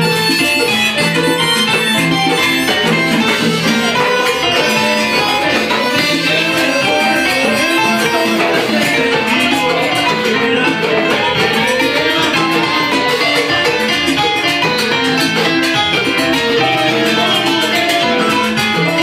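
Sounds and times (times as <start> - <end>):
salsa band playing dance music: 0.0 - 19.0.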